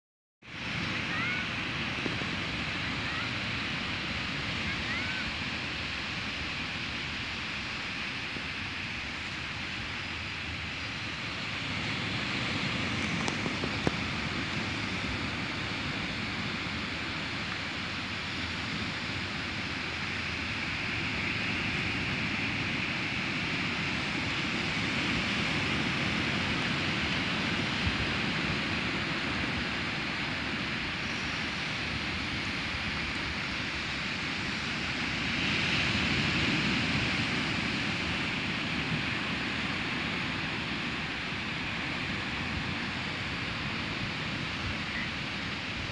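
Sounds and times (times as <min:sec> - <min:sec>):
waves breaking on a beach: 0:00.4 - 0:45.9.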